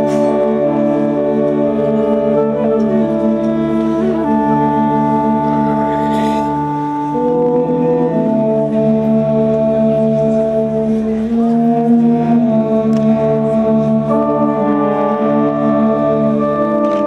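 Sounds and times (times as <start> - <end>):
wind band playing slow chords: 0.0 - 17.0.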